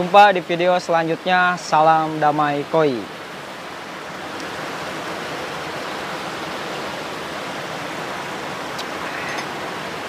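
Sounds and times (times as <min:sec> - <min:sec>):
water rushing through channels: 0:00.0 - 0:10.0.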